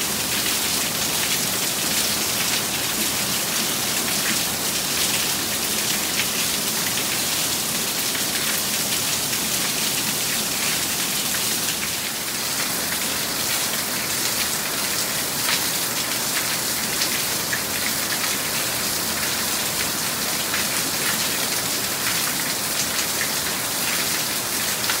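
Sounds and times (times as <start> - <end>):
torrential rain: 0.0 - 25.0.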